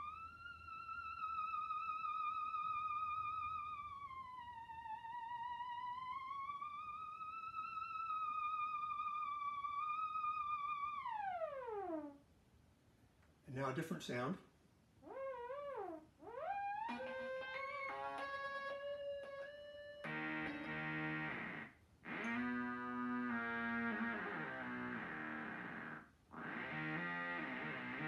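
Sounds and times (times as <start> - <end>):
theremin tone with vibrato: 0.0 - 12.2, 15.0 - 28.0.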